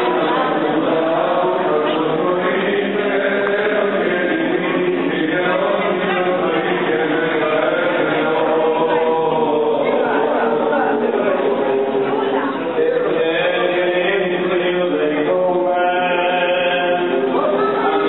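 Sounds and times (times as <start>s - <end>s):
voices chanting: 0.0s - 18.0s.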